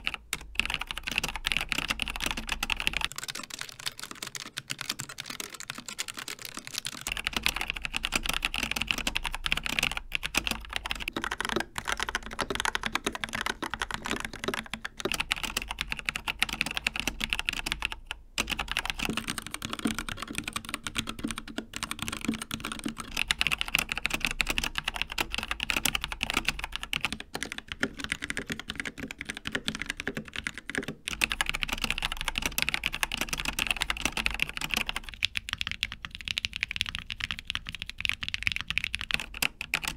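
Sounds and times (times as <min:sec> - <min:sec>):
fast typing on mechanical keyboards: 0:00.0 - 0:39.9.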